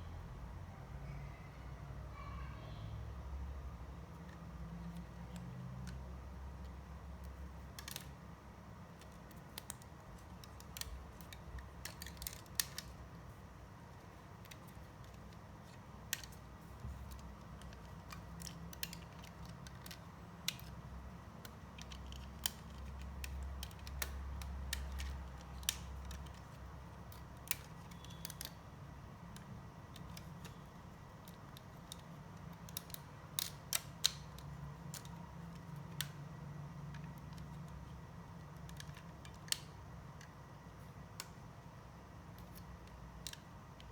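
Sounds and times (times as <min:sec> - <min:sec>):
low steady hum: 0:00.0 - 0:43.9
plastic parts clicking and tapping: 0:04.0 - 0:43.9.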